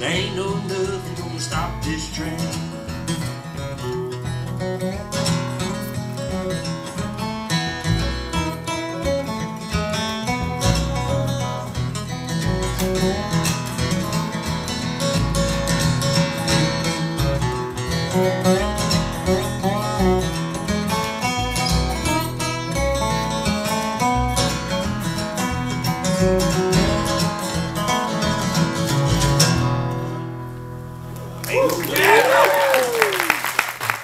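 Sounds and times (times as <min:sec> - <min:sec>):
acoustic guitar strumming: 0:00.0 - 0:31.4
resonator guitar sliding notes: 0:00.0 - 0:31.4
upright bass notes: 0:00.0 - 0:31.7.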